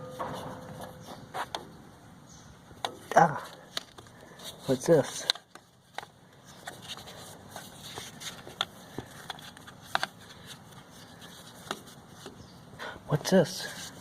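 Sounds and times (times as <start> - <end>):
faint steady background noise: 0.0 - 14.0.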